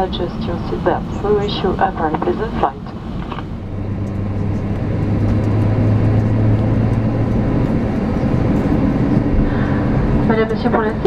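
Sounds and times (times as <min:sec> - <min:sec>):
jet engine cabin rumble: 0:00.0 - 0:11.0
low hum: 0:00.0 - 0:11.0.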